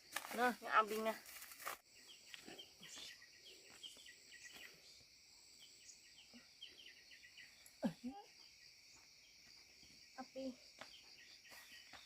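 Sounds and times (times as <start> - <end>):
insect chirps: 0.0 - 12.0
insects droning: 0.0 - 12.0.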